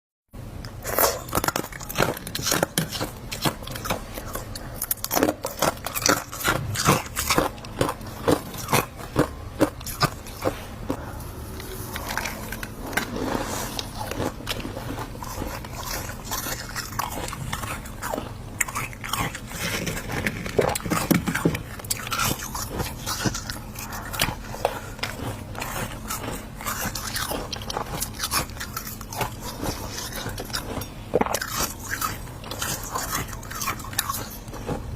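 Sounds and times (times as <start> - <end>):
ice being chewed crunching: 0.6 - 34.9.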